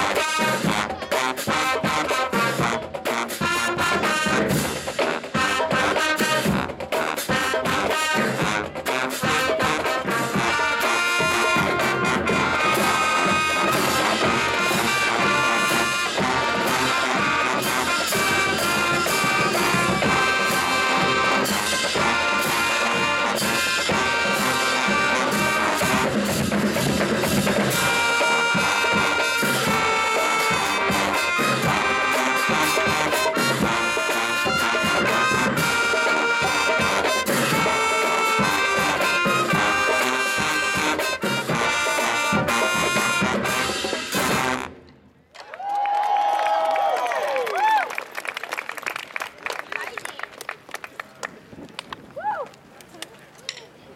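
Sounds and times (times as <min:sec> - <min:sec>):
marching drums and cymbals: 0:00.0 - 0:44.8
brass section: 0:00.0 - 0:45.0
marching band playing: 0:00.0 - 0:45.1.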